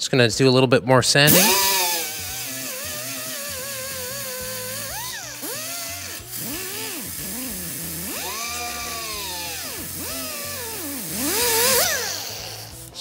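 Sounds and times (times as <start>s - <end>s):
die grinder whine: 1.3s - 13.0s.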